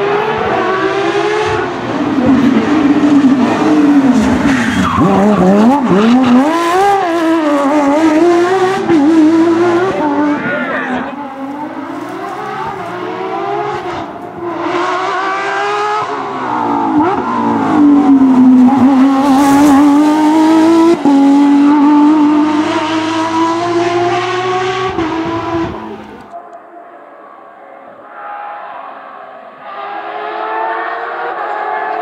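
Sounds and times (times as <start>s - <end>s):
rally car engine revving past: 0.0s - 26.3s.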